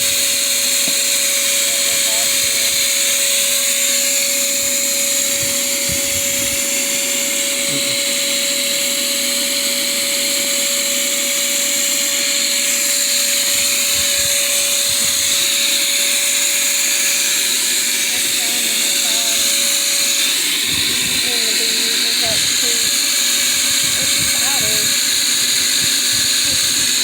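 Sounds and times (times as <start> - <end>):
vacuum running: 0.0 - 27.0.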